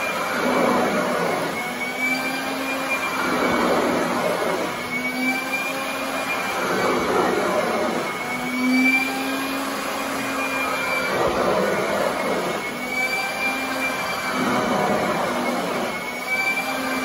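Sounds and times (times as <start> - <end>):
vacuum cleaner on carpet: 0.0 - 17.0.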